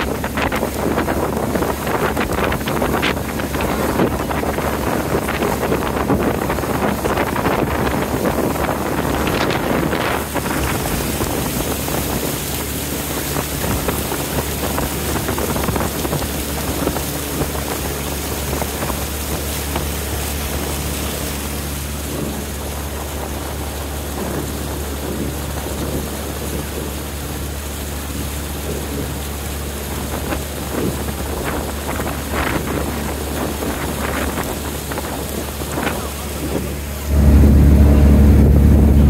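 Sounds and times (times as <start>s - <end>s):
motorboat engine running: 0.0s - 39.0s
water splashing against hull: 0.0s - 39.0s
wind noise on microphone: 0.0s - 39.0s.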